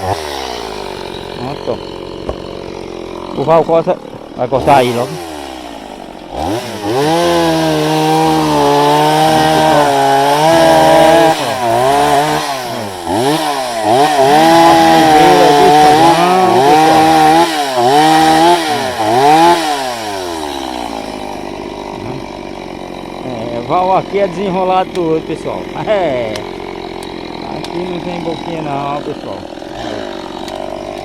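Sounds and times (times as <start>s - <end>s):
chainsaw cutting logs: 0.0s - 31.0s.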